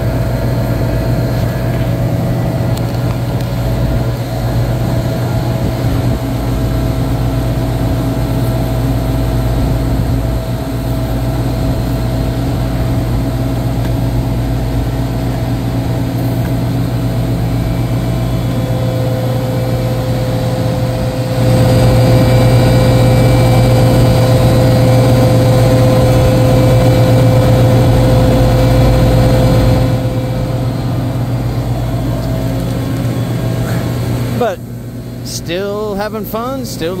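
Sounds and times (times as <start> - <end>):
machinery whine: 0.0 - 37.0
refrigeration machinery hum: 0.0 - 37.0.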